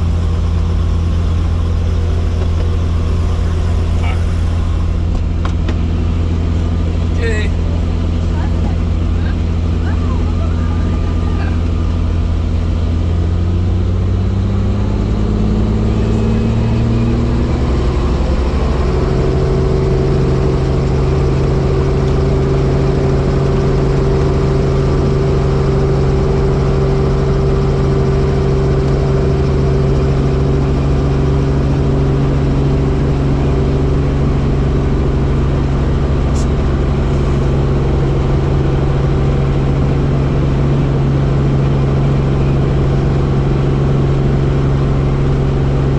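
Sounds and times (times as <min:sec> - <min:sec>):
helicopter engine and rotor: 0:00.0 - 0:45.9.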